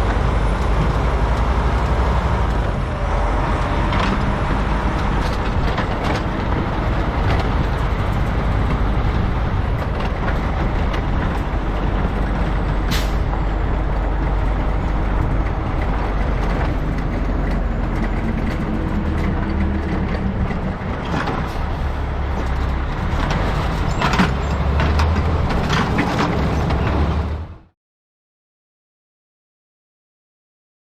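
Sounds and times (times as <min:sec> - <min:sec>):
diesel vehicle engine rumbling: 0:00.0 - 0:27.8.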